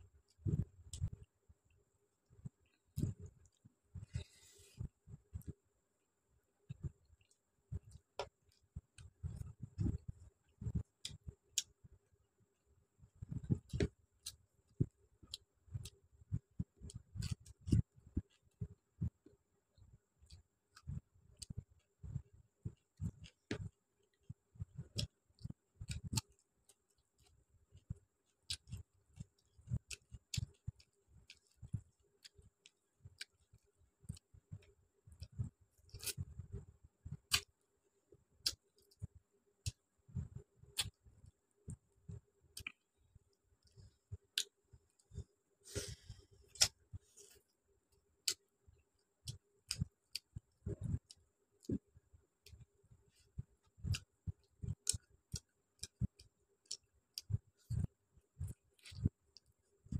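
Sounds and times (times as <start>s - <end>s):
soft chewing: 0.0s - 5.7s, 6.5s - 59.9s.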